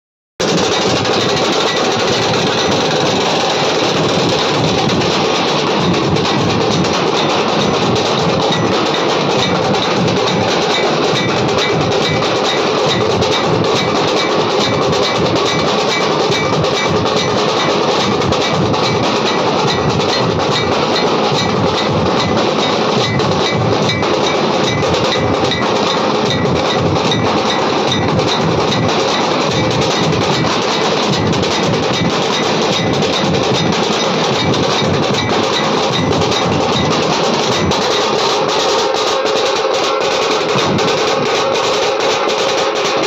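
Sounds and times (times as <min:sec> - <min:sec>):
dhol drums beaten with sticks: 0:00.4 - 0:43.0.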